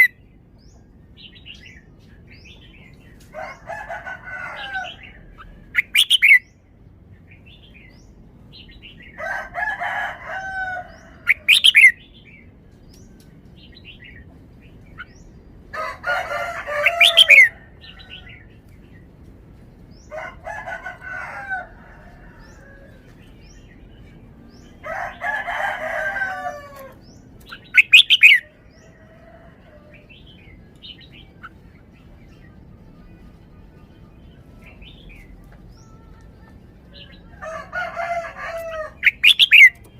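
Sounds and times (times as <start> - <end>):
bird warbling song: 0.0 - 9.3, 10.7 - 15.4, 16.2 - 19.1, 21.6 - 32.6, 34.2 - 39.9.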